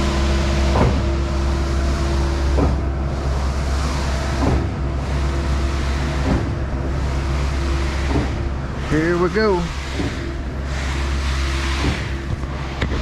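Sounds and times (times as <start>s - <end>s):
concrete pump clunk: 0.0s - 3.1s, 4.0s - 8.9s, 9.7s - 13.0s
engine running: 0.0s - 13.0s.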